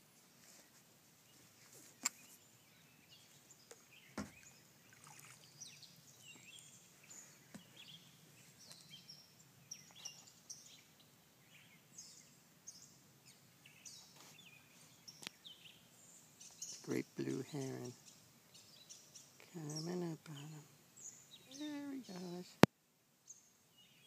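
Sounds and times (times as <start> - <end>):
birds chirping and whistling: 2.1 - 22.5.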